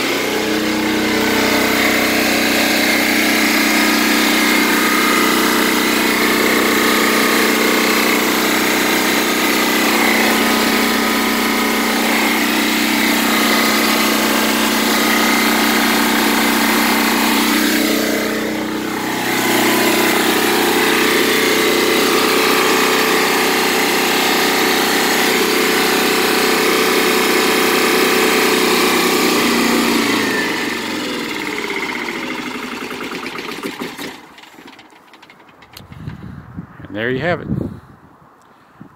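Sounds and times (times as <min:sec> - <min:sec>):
diesel generator running: 0:00.0 - 0:37.9.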